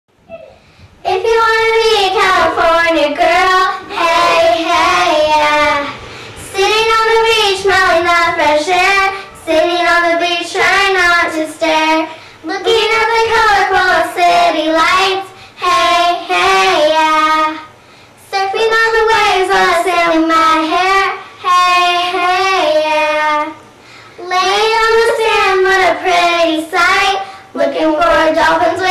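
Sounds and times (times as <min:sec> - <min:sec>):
girls singing unaccompanied: 0:01.0 - 0:28.9.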